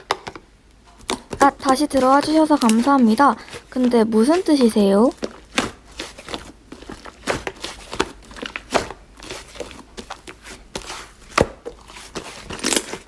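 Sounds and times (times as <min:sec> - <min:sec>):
slime squished by hand: 0:01.0 - 0:13.0.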